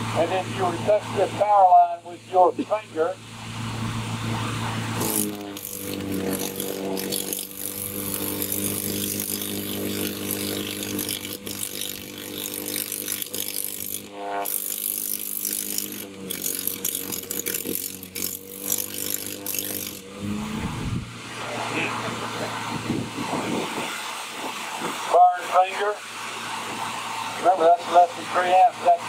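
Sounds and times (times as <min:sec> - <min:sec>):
electrical buzz with crackling: 0:00.0 - 0:29.0.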